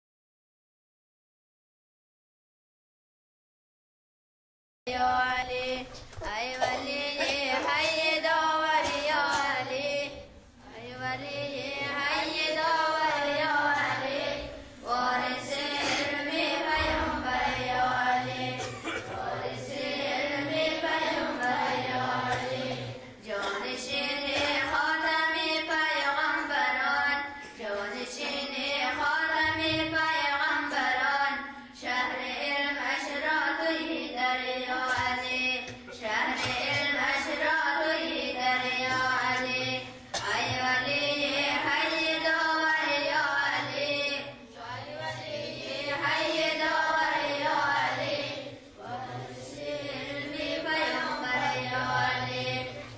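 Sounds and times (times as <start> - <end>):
girls singing a chant: 4.9 - 52.9.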